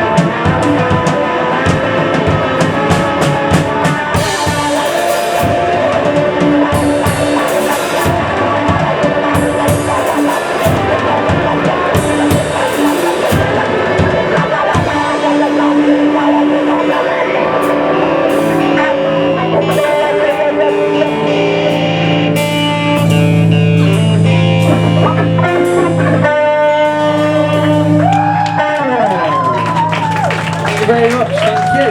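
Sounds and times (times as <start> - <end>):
drum kit: 0.0 - 31.9
electric guitar: 0.0 - 31.9
rock band playing: 0.0 - 31.9.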